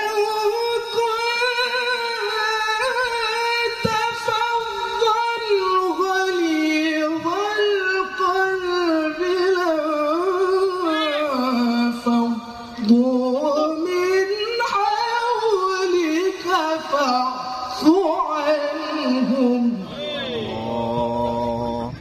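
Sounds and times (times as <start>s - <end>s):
man reciting melodically: 0.0s - 22.0s.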